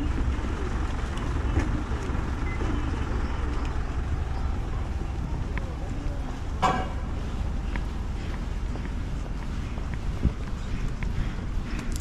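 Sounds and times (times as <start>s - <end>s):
bus idling at stop: 0.0s - 12.0s
low rumble of traffic: 0.0s - 12.0s.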